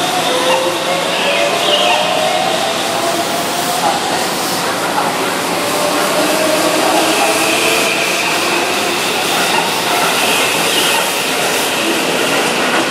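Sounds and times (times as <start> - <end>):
wheels rumbling on rail: 0.0 - 12.9.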